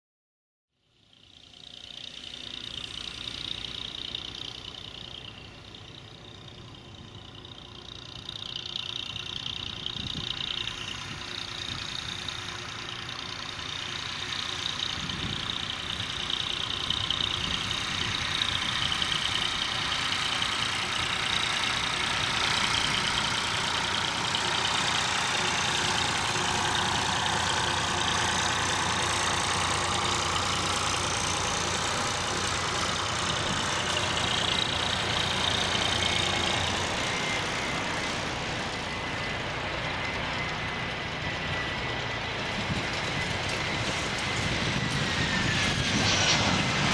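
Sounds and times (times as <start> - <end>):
jet engine rumble with fan whine: 1.2 - 46.9.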